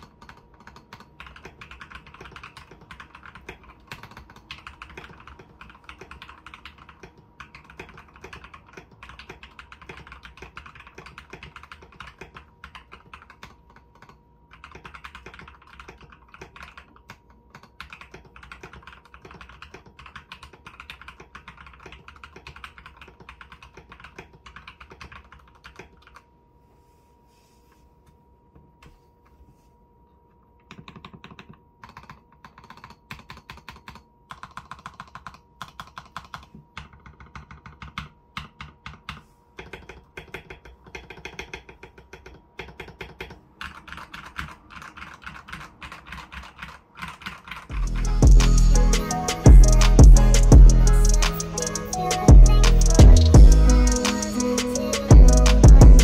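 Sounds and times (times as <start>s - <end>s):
typing on mechanical keyboard: 0.0s - 26.2s, 30.6s - 56.0s.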